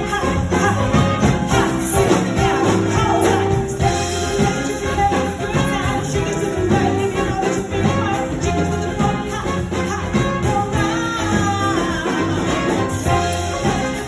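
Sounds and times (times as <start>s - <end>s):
live dance music with singer: 0.0s - 14.0s.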